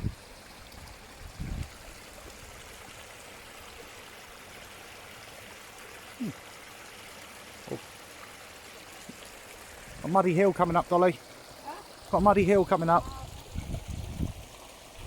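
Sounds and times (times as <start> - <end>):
stream babbling: 0.0 - 15.0.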